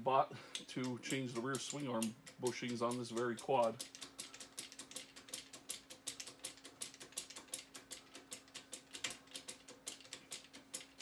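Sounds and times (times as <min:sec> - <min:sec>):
mechanical ticking: 0:00.5 - 0:11.0.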